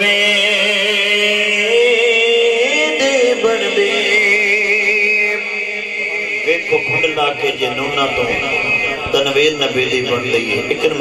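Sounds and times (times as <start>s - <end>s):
man singing through loudspeaker: 0.0s - 11.0s
steady lower tone: 1.2s - 11.0s.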